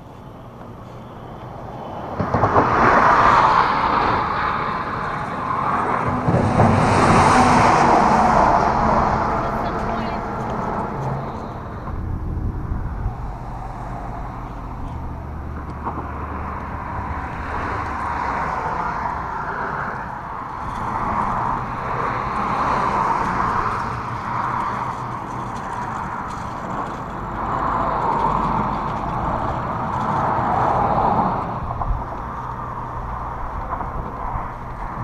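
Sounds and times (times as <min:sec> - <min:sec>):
low engine hum: 0:00.0 - 0:35.0
road traffic passing: 0:00.0 - 0:35.0.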